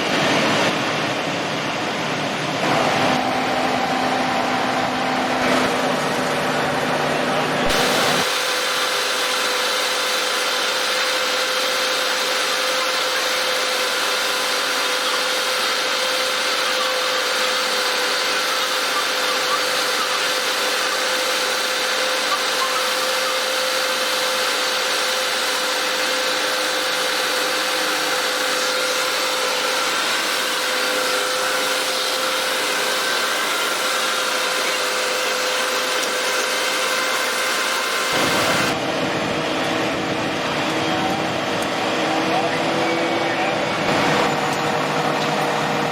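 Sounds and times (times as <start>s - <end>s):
machinery whine and hum: 0.0s - 45.9s.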